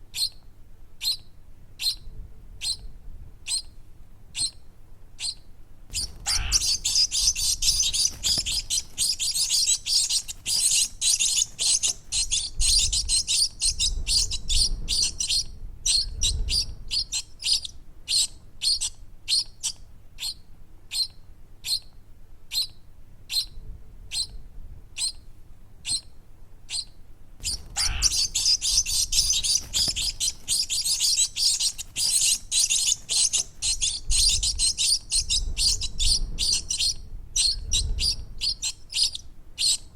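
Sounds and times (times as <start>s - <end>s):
baby birds chirping: 0.1s - 0.4s, 1.0s - 2.0s, 2.6s - 2.8s, 3.5s - 3.7s, 4.3s - 4.6s, 5.2s - 21.9s, 22.5s - 22.7s, 24.1s - 24.4s, 25.8s - 26.1s, 26.7s - 39.9s.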